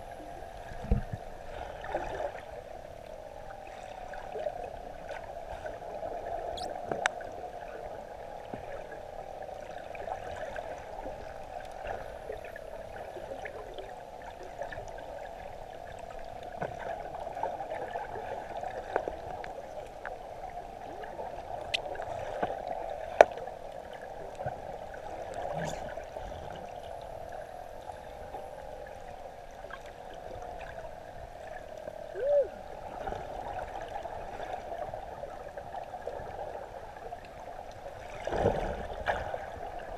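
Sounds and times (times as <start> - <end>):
water gurgle: 0.0 - 39.9.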